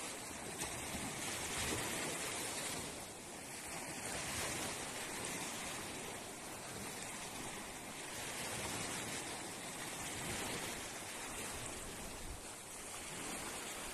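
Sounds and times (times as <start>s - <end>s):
small waves washing onto beach: 0.0s - 13.9s.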